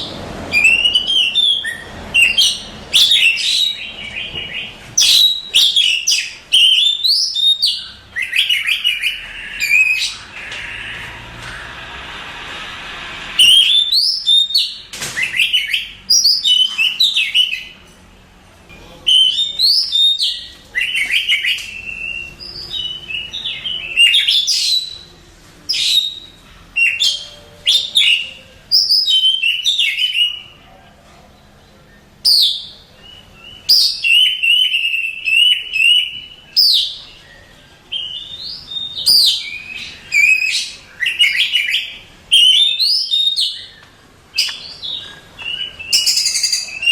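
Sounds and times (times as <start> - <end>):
bird singing: 0.0 - 11.3, 13.4 - 17.8, 19.0 - 30.6, 31.7 - 46.9.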